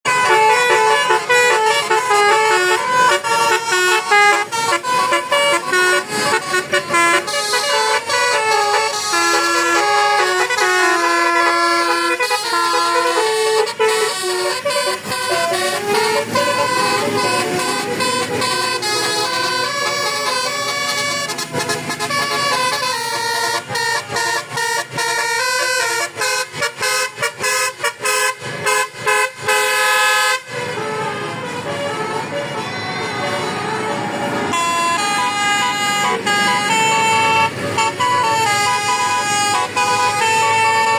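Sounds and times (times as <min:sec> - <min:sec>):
musical horn melody: 0:00.0 - 0:40.9.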